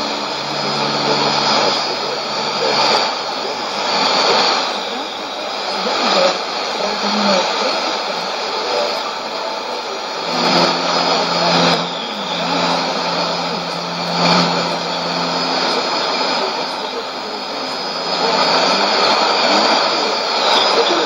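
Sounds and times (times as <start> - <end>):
low buzzing test tone: 0.0 - 21.0
radio hiss and static: 0.0 - 21.0
steady high whistle: 0.0 - 21.0.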